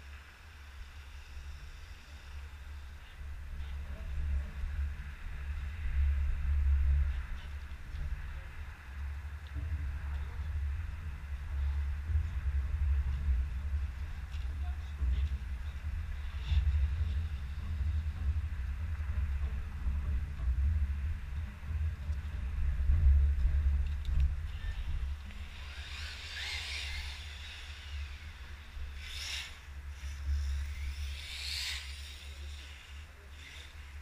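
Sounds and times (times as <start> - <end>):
radio-controlled car whine: 0.0 - 34.0
steady low rumble: 0.0 - 34.0.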